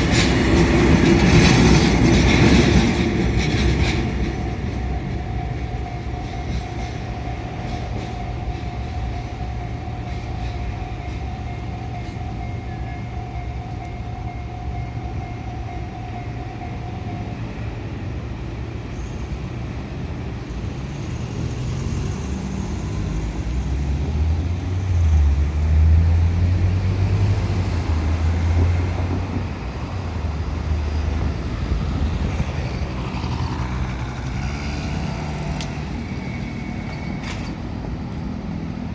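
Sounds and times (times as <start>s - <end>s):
deep train rumble: 0.0s - 38.9s
locomotive engine drone: 0.0s - 38.9s.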